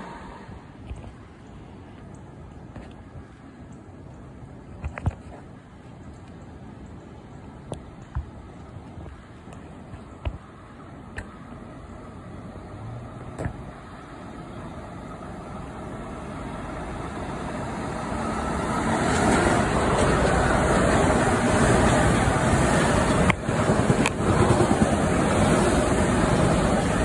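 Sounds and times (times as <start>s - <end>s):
train passing: 0.0s - 2.7s, 6.0s - 27.0s.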